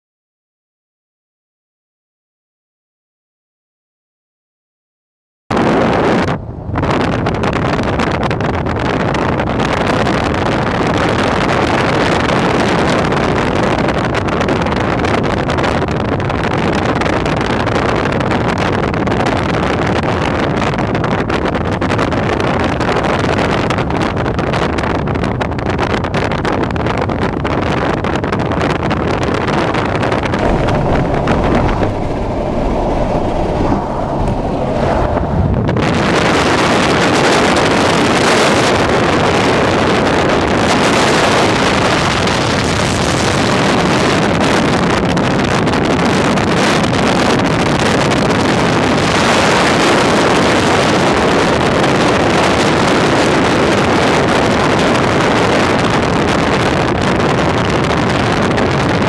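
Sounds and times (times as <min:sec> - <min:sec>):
wind buffeting microphone: 0:05.5 - 0:59.0
vehicle wind and road noise: 0:05.6 - 0:59.0.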